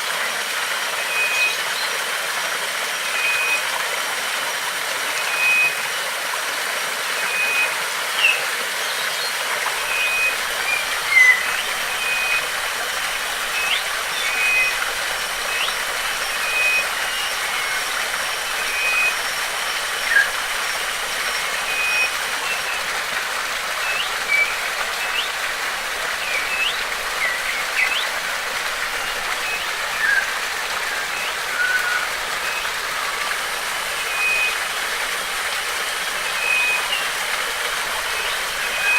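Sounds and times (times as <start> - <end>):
rushing water hiss: 0.0 - 38.9
small birds chirping: 7.2 - 38.9.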